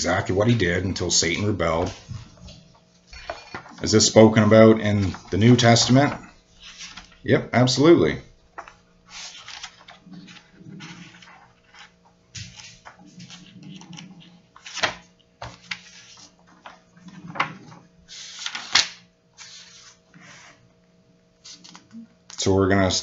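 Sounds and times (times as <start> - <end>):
faint steady hum: 0.0 - 23.0
paper pages rustling and turning: 0.5 - 7.2, 8.6 - 20.6, 21.4 - 22.4.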